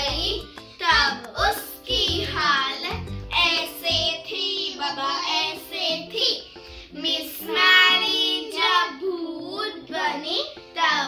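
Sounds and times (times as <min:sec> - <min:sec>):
girls singing: 0:00.0 - 0:11.0
music: 0:00.0 - 0:11.0.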